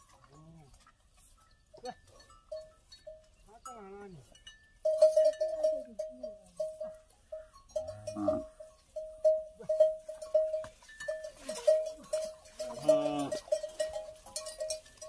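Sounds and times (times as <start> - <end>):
metal neck bells clanking: 0.0 - 15.0.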